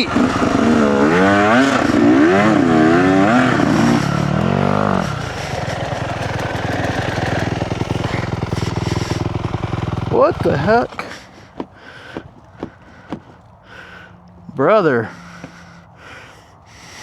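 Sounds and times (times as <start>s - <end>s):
dirt bike engine revving and idling: 0.0s - 16.3s.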